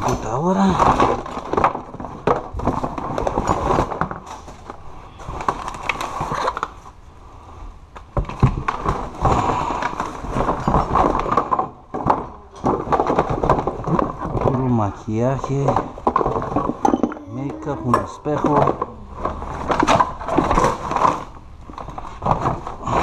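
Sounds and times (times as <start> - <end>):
items clattering against plastic: 0.0 - 7.0, 8.0 - 23.0
bags and papers rustling: 0.0 - 7.6, 8.2 - 23.0.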